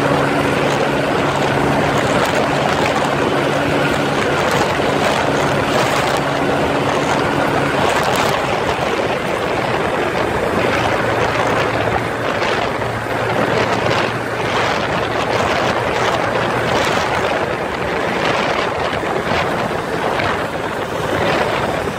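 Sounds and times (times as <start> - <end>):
motorcycle engine running: 0.0 - 21.9
wind rushing over microphone: 0.0 - 21.9.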